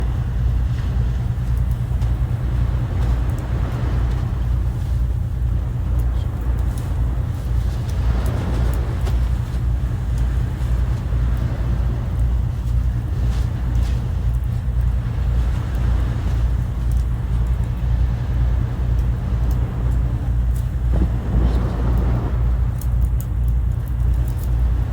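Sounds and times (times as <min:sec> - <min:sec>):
sea waves breaking: 0:00.0 - 0:24.9
wind: 0:00.0 - 0:24.9.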